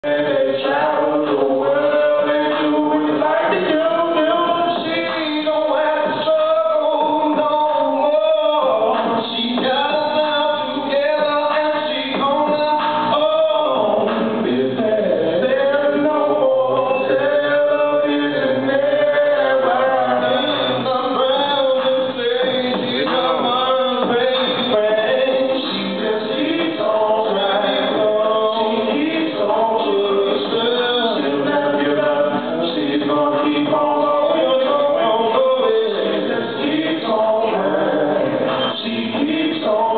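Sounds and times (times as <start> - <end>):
male vocal group singing: 0.0 - 39.9.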